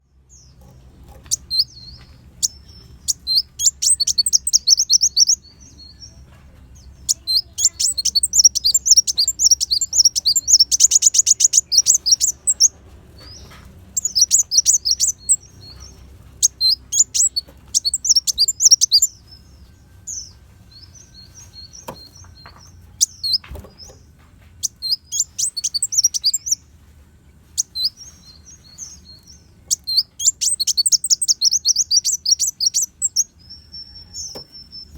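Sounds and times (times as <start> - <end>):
sunbird chirping and trilling: 1.2 - 24.0, 24.6 - 26.7, 27.5 - 34.9.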